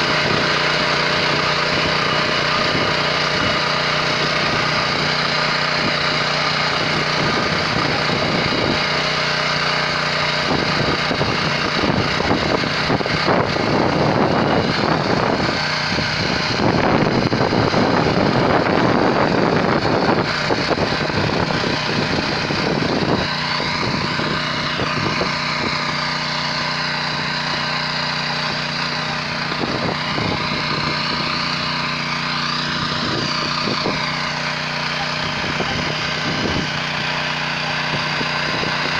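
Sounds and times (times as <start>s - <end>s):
rotary tiller cutting soil: 0.0s - 38.9s
tractor engine running: 0.0s - 38.9s.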